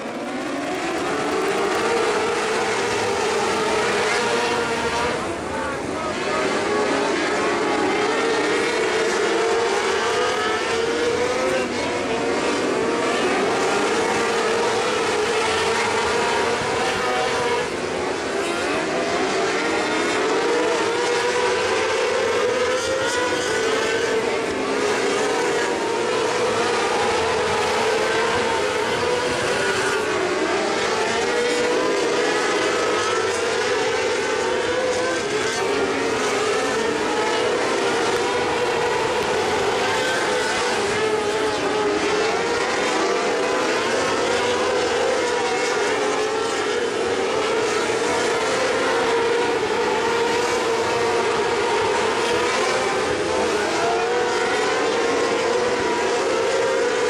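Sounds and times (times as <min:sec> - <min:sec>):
sprint car engines at high revs: 0:00.0 - 0:57.0.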